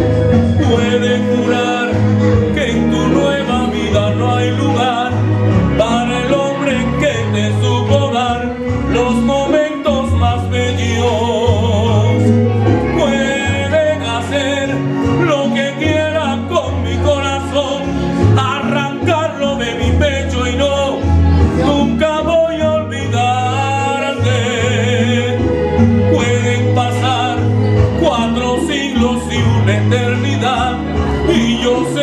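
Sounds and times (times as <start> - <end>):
instrumental accompaniment: 0.0 - 32.0
man singing romantic ballad: 0.0 - 32.0.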